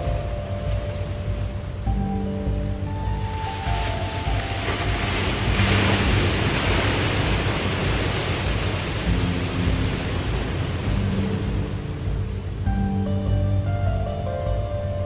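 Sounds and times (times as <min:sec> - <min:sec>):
soft background music: 0:00.0 - 0:15.0
waterfall rushing: 0:00.0 - 0:15.0.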